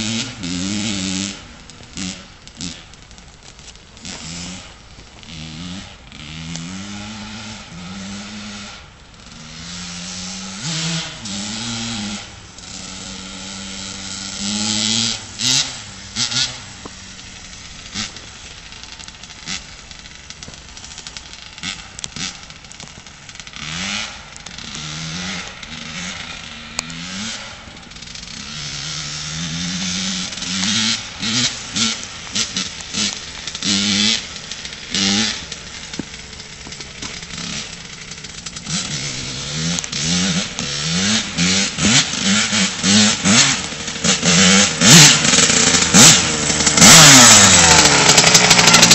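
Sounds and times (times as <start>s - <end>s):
engine sharp cracks: 0.0s - 48.9s
two-stroke engine revving: 0.0s - 48.9s.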